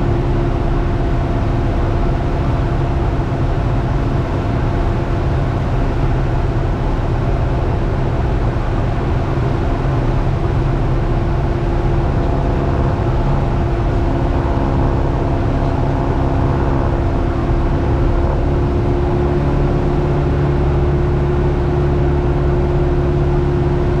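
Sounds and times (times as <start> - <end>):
plane engine drone in cabin: 0.0 - 24.0.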